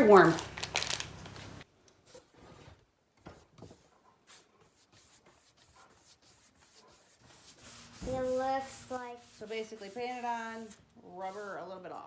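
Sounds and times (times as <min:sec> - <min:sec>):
paintbrush strokes on wall: 0:02.0 - 0:12.0.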